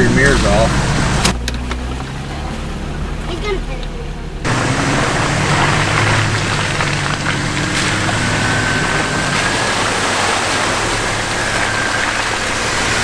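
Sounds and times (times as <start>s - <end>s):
engine and tyres rushing: 0.0s - 13.0s.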